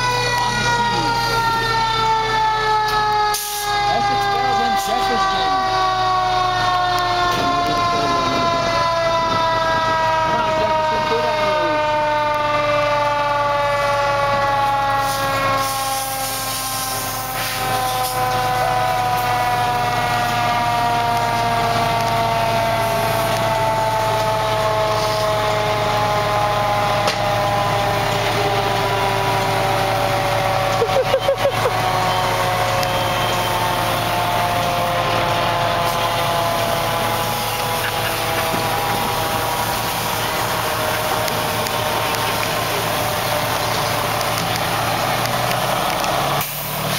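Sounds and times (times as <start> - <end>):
diesel engines idling: 0.0 - 46.9
mechanical siren winding down: 0.0 - 46.9.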